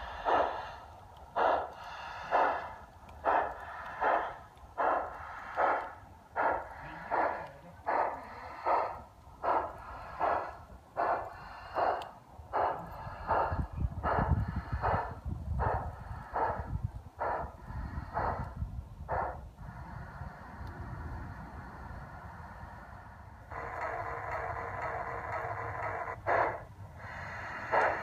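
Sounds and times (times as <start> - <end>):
model steam locomotive chuffing: 0.0 - 28.0.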